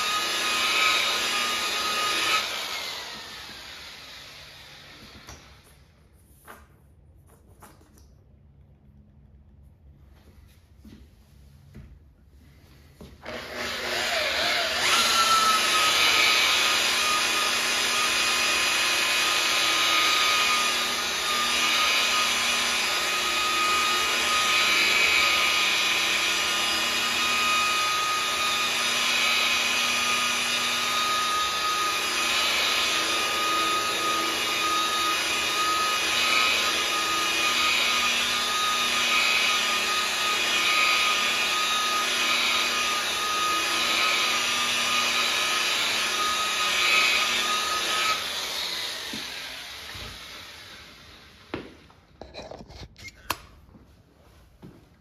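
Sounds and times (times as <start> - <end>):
rotary polisher motor whine: 0.0 - 5.8, 12.9 - 52.5.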